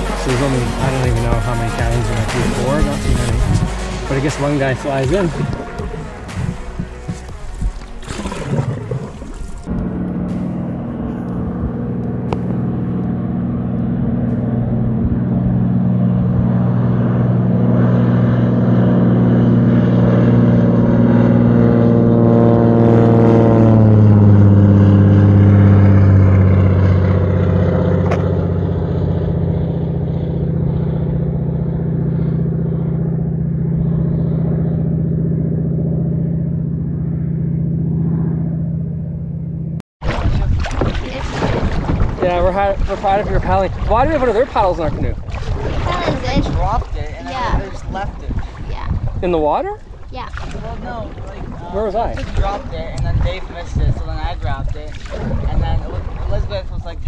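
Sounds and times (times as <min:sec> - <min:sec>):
propeller plane engine drone: 0:00.0 - 0:40.2, 0:41.6 - 0:57.0.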